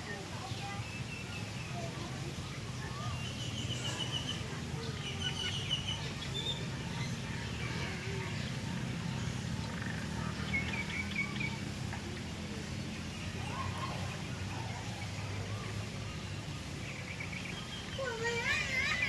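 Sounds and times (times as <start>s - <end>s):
small birds chirping trills: 0.0s - 19.0s.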